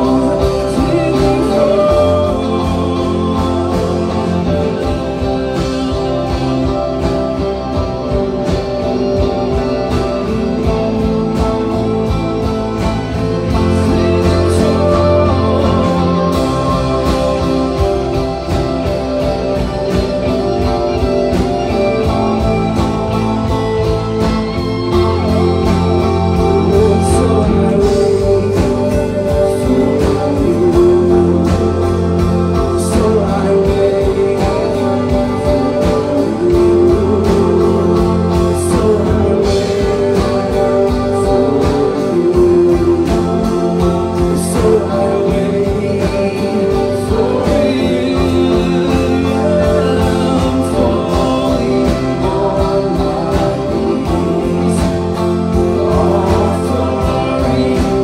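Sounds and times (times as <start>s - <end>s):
band playing slow song: 0.0s - 58.0s
person singing: 0.0s - 58.0s.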